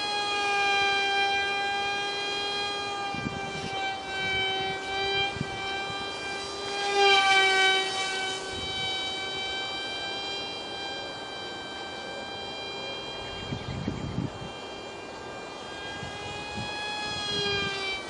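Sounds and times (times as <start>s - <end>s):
electric motor and propeller whining: 0.0s - 18.0s.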